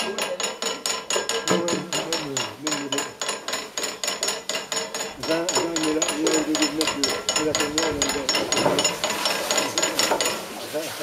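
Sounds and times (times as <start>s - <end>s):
hand pump mechanism clicking: 0.0s - 10.6s.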